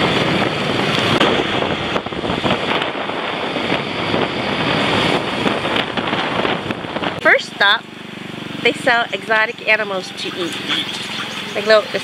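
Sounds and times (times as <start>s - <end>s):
moped engine running: 0.0s - 12.0s
wind rush on microphone: 0.0s - 12.0s.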